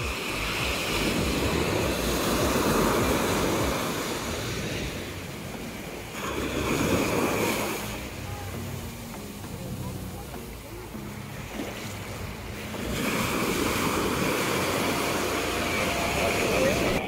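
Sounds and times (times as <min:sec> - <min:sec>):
small waves breaking on a beach: 0:00.0 - 0:17.0.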